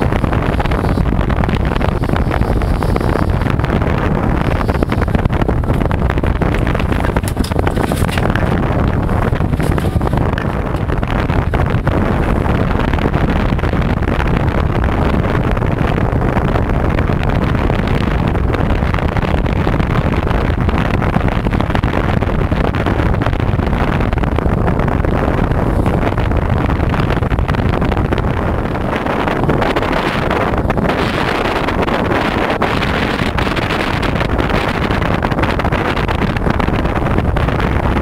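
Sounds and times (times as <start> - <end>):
outboard engine: 0.0 - 38.0
wind buffeting microphone: 0.0 - 38.0.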